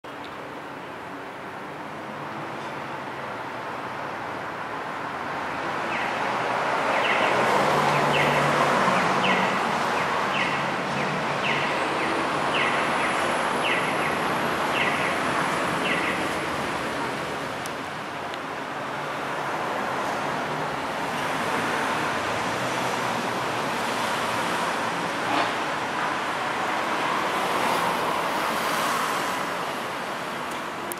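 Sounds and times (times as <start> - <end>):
street traffic: 0.0 - 30.9.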